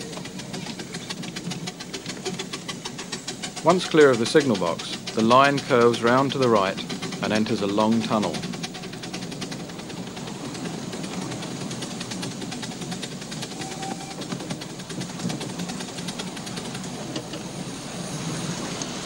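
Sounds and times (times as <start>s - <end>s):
miniature train wheels clattering: 0.0s - 17.8s.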